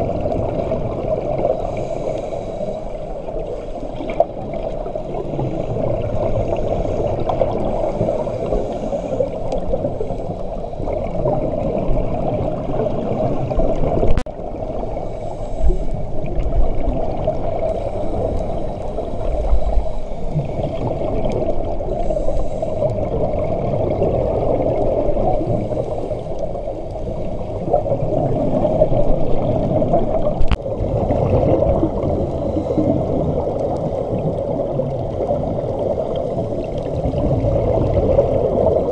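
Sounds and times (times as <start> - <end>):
muffled underwater noise: 0.0 - 38.9
regulator bubbles gurgling: 0.0 - 38.9.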